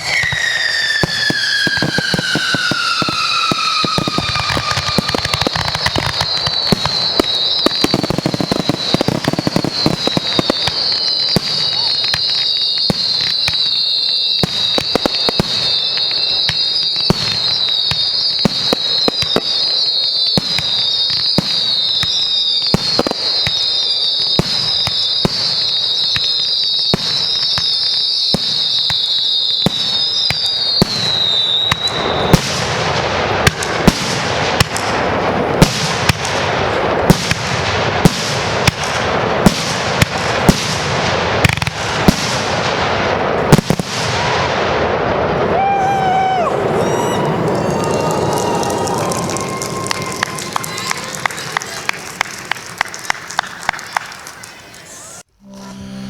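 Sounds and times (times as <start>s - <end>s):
fireworks bangs: 0.0s - 55.4s
fireworks crackling: 0.0s - 55.4s
fireworks whistling: 0.0s - 55.8s.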